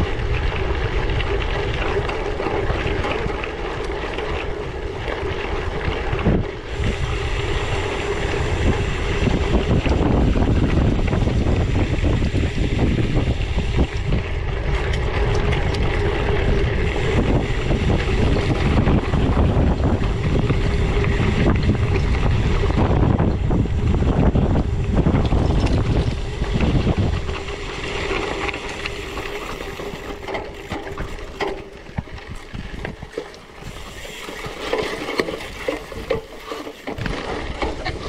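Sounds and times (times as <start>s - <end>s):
bike tyres crunching over ground: 0.0s - 38.0s
wind buffeting microphone: 0.0s - 38.0s.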